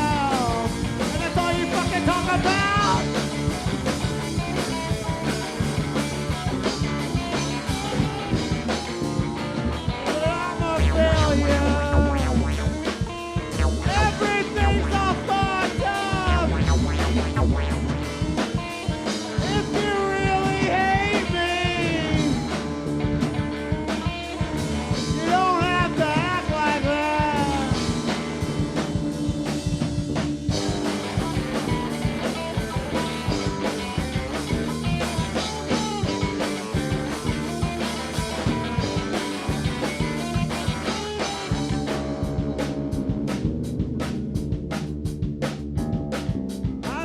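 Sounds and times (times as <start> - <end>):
bending lead guitar line: 0.0 - 43.7
live rock band playing: 0.0 - 47.0.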